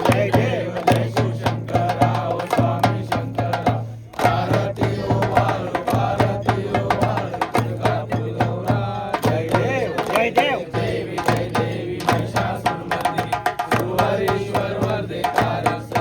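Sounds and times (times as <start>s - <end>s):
fast drum beat: 0.0s - 16.0s.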